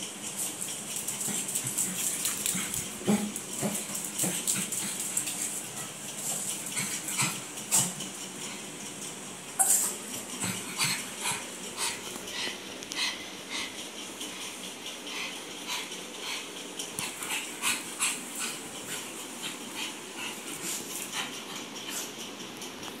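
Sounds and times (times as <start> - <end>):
puppy paws on tiled floor: 0.0 - 23.0.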